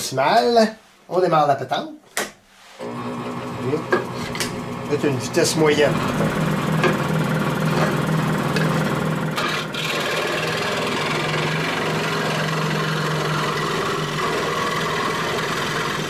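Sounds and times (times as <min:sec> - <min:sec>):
scroll saw cutting wood: 0:02.8 - 0:16.0.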